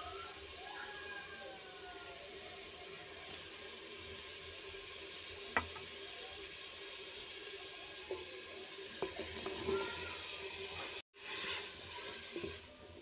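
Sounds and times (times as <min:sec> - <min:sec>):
cauliflower sizzling in oil: 0:00.0 - 0:13.0.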